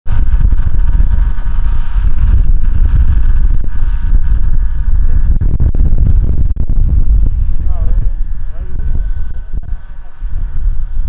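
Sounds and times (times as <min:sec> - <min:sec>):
model helicopter whine: 0:00.0 - 0:11.0
wind buffeting microphone: 0:00.0 - 0:11.0.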